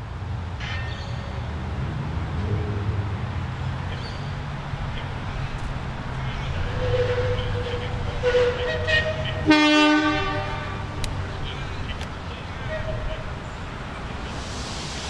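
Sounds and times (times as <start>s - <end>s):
distant locomotives rumbling: 0.1s - 15.0s.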